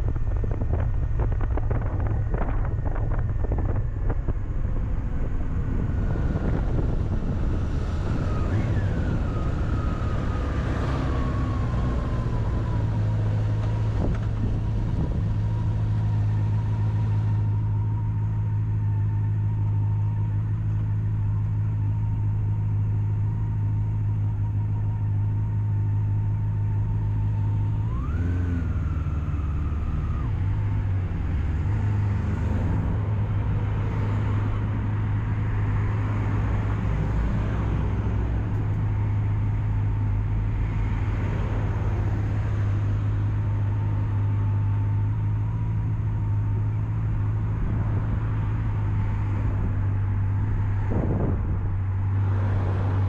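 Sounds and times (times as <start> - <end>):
road noise: 0.0 - 53.0.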